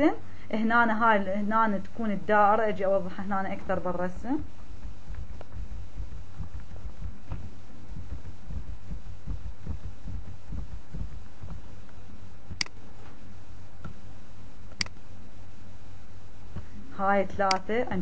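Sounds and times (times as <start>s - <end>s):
steady low hum: 0.0s - 18.0s
soft low thumps: 3.2s - 18.0s.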